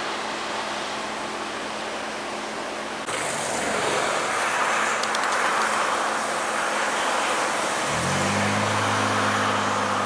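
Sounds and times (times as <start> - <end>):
flowing floodwater: 0.0 - 10.0
vehicle engine hum: 0.0 - 10.0
wind: 0.0 - 10.0.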